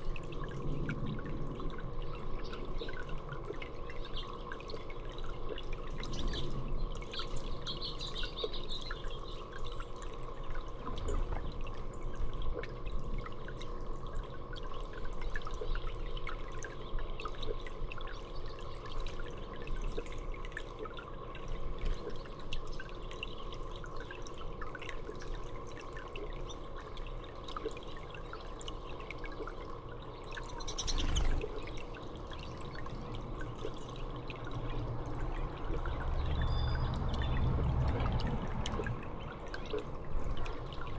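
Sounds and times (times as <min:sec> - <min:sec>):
water trickling and dripping: 0:00.0 - 0:40.9.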